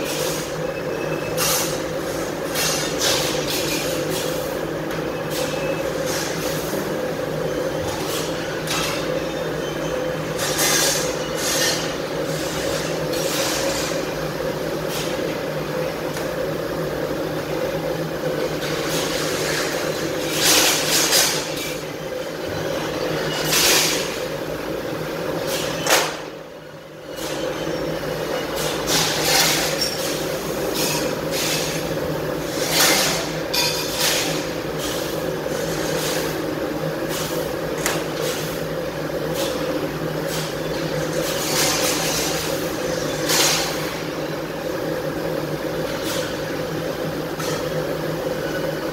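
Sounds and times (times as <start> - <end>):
factory machinery hum: 0.0 - 48.9.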